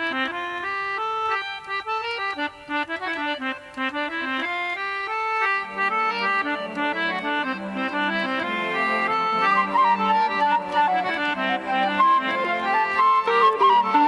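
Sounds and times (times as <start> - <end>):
lively instrumental folk tune: 0.0 - 14.0
lower accompanying notes: 1.2 - 14.0.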